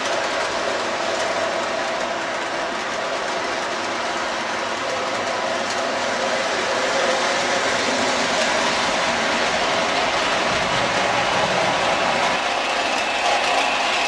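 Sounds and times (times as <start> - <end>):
model train wheels on rails: 0.0 - 14.0.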